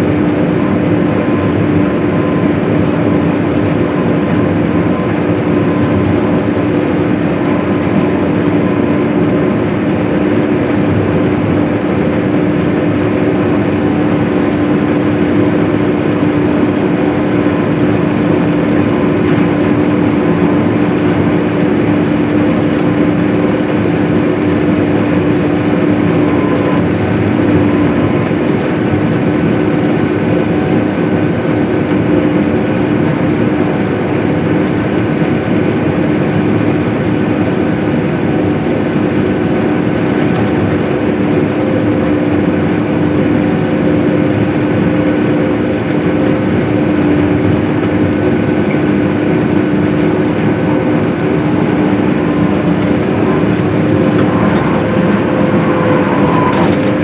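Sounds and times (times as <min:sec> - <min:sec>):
swather engine droning: 0:00.0 - 0:57.0.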